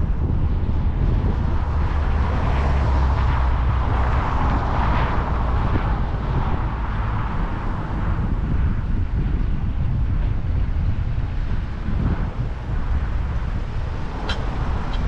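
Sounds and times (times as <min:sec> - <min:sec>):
road noise rumble: 0:00.0 - 0:15.0
wind buffeting microphone: 0:00.0 - 0:15.0.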